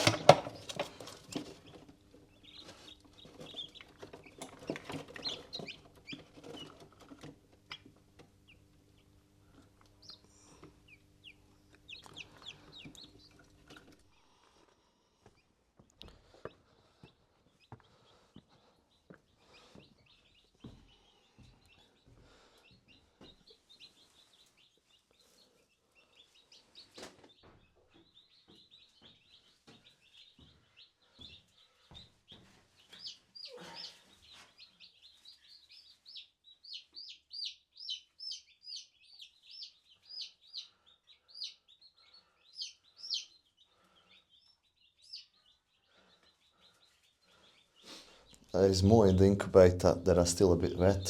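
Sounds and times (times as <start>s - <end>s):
chicks peeping: 0.0s - 51.0s.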